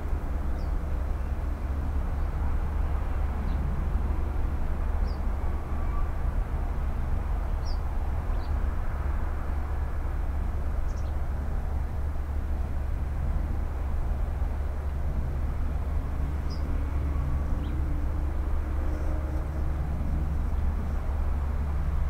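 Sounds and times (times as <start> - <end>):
low outdoor rumble and hiss: 0.0 - 22.0.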